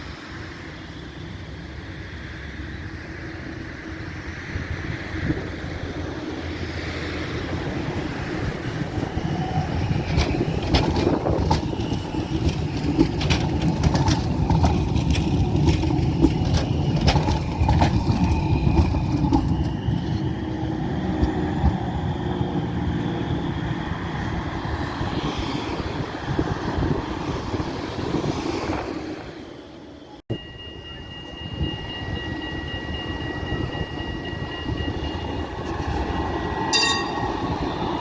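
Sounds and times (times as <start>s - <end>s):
high whine from wheels: 0.0s - 38.0s
tram running on rails: 0.0s - 38.0s.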